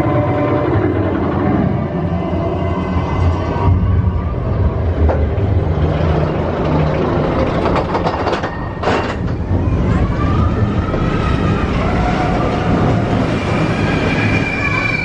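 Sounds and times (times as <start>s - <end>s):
rising squeal: 0.0s - 15.0s
roller coaster clatter: 0.0s - 15.0s
roller coaster wheels rumbling on rails: 0.0s - 15.0s.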